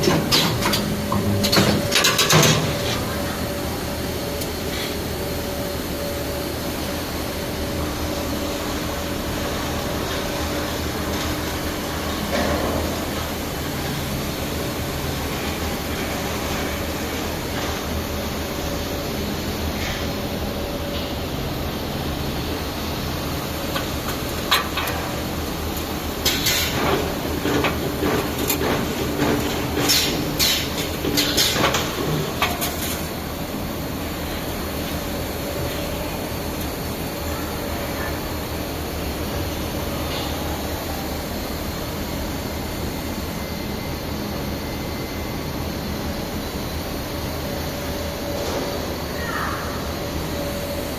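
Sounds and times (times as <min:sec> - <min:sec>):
faint machine whine: 0:00.0 - 0:50.9
low machine whine: 0:00.0 - 0:50.9
welding machine hum and hiss: 0:00.0 - 0:50.9.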